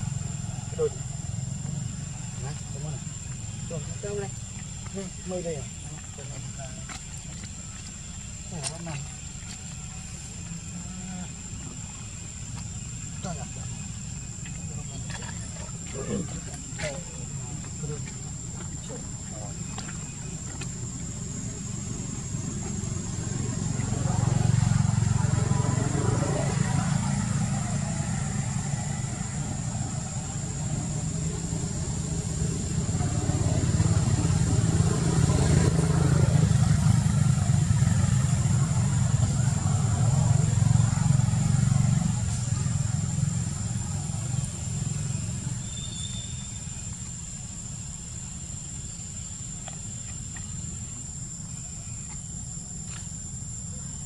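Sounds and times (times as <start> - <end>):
engine idling hum: 0.0 - 54.0
high-pitched insect drone: 0.0 - 54.0.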